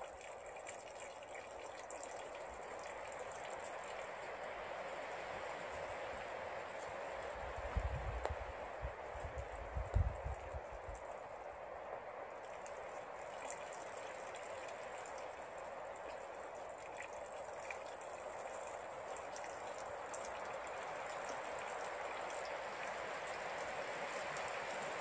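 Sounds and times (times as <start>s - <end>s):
wind and rain in trees: 0.0s - 25.0s.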